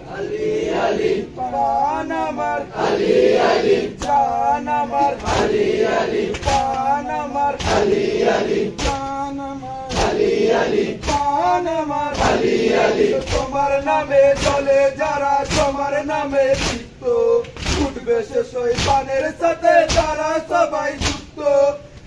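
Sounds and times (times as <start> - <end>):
men chanting a lament: 0.0 - 22.0
rhythmic chest-beat thumps: 3.2 - 21.4.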